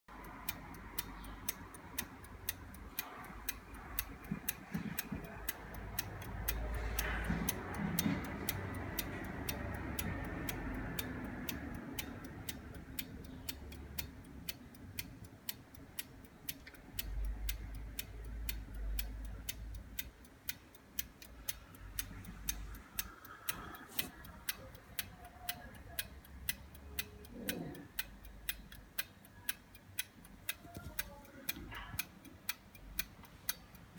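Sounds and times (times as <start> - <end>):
chronometer ticking: 0.1 - 33.9.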